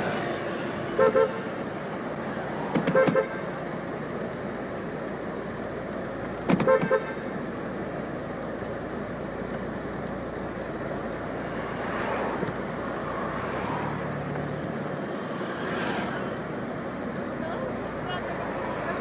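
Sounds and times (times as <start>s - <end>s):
hum of cars: 0.0s - 19.0s
vehicles passing: 0.0s - 19.0s.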